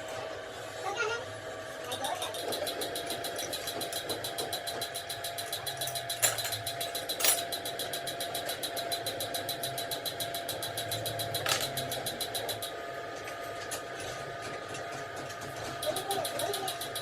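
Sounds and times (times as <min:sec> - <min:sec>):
machine ticking steadily: 0:01.8 - 0:17.0.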